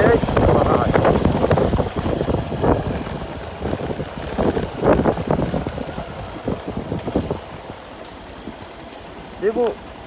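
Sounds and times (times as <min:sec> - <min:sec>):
wind buffeting microphone: 0:00.0 - 0:08.7
low vehicle rumble: 0:00.0 - 0:10.0.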